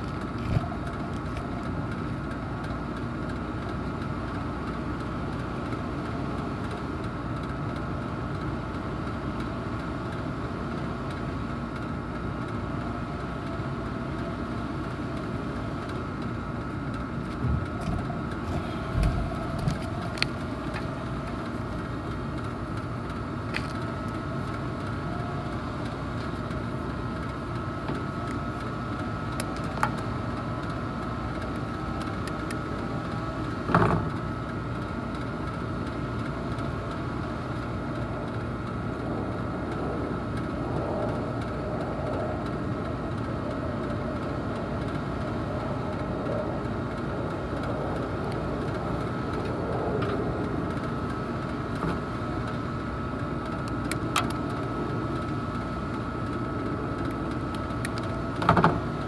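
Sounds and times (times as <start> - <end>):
constant tone: 0.0 - 59.0
air conditioner humming: 11.4 - 59.0.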